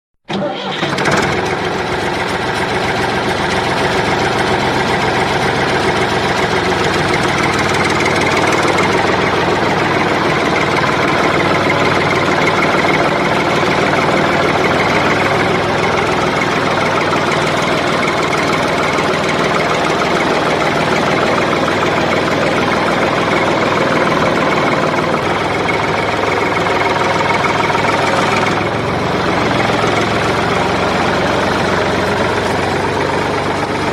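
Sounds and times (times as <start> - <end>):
engine idling: 0.3 - 33.9.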